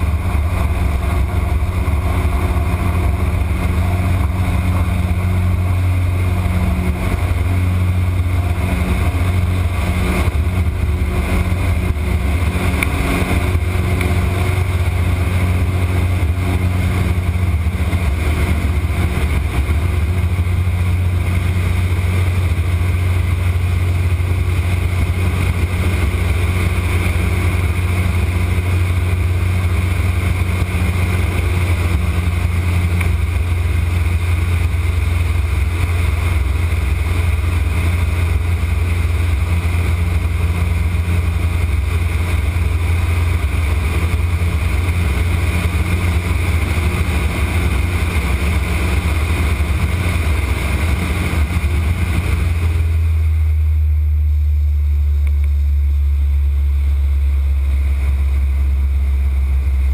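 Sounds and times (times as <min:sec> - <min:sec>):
propeller engine drone: 0:00.0 - 0:59.9.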